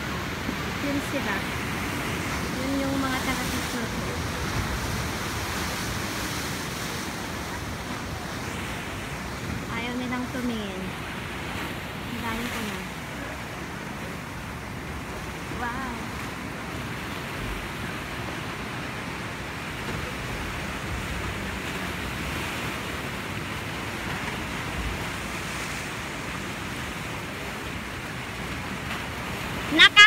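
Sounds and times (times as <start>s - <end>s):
surf breaking on rocks: 0.0s - 30.0s.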